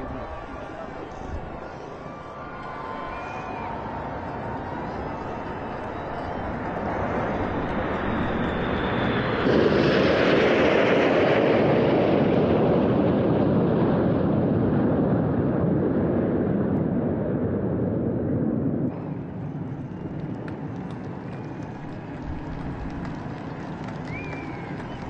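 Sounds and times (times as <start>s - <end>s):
jets flying low overhead: 0.0s - 25.0s.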